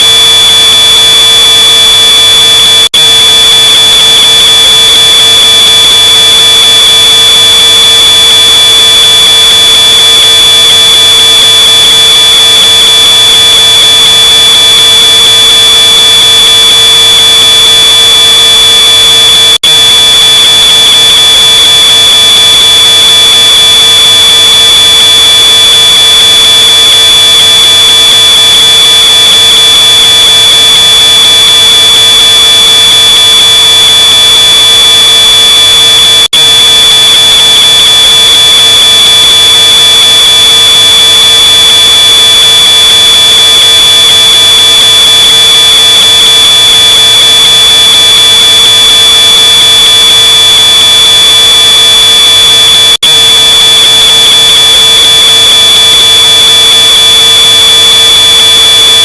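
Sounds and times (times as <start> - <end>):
distorted smoke alarm tone: 0.0 - 59.0.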